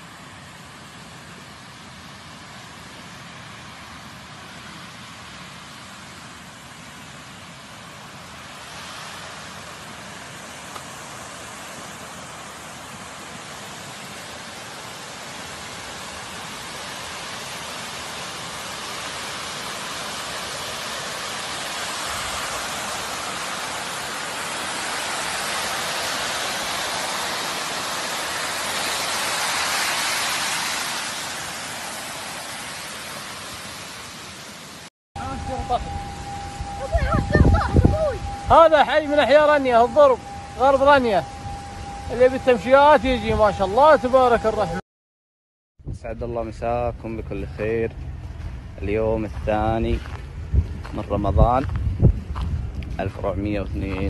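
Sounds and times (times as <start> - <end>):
floodwater rushing: 0.0 - 44.8.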